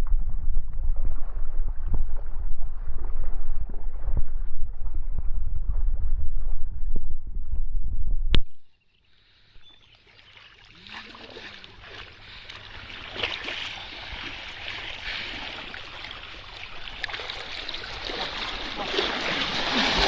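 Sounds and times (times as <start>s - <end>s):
water splashing and sloshing: 0.0s - 6.7s, 8.9s - 20.0s.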